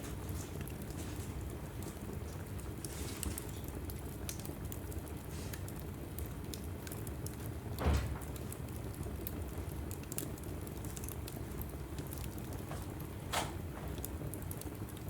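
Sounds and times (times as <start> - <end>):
fire crackles and pops: 0.0 - 15.0
fire rumbling: 0.0 - 15.0.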